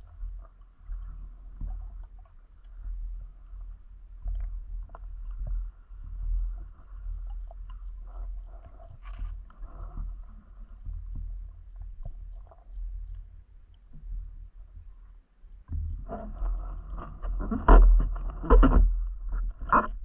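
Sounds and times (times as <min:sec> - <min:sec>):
underwater rumble of water: 0:00.0 - 0:20.0.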